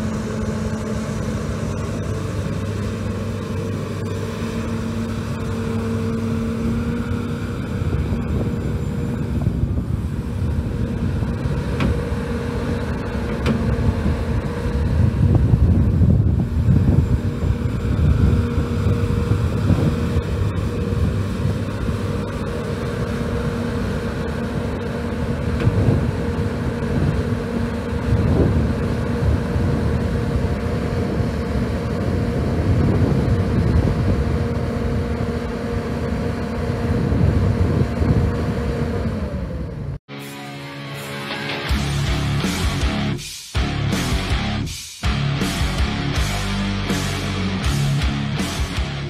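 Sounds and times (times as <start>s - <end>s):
excavator diesel engine rumbling: 0.0s - 40.0s, 40.6s - 49.0s
wind buffeting microphone: 0.0s - 40.0s
hydraulic whine: 0.0s - 49.0s.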